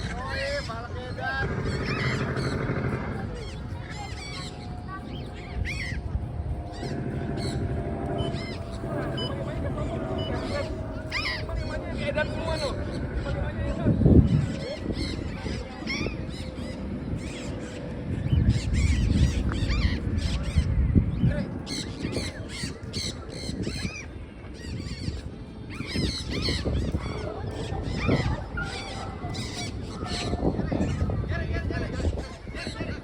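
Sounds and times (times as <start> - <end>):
low rumbling noise: 0.0 - 33.0
parrots calling: 0.0 - 33.0.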